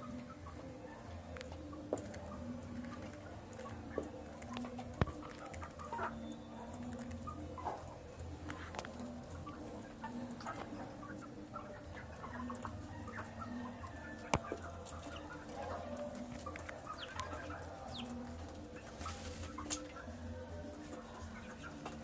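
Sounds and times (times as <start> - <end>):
chicks pecking at feed: 0.0 - 22.0
chicks peeping: 0.0 - 22.0.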